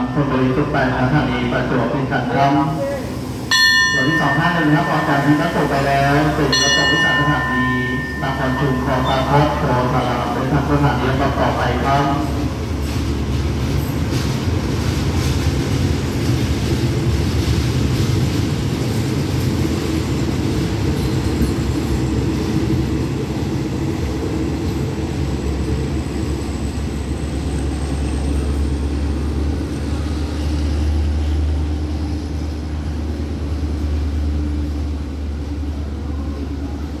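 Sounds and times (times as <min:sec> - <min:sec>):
train wheels rumbling over rails: 0:00.0 - 0:37.0.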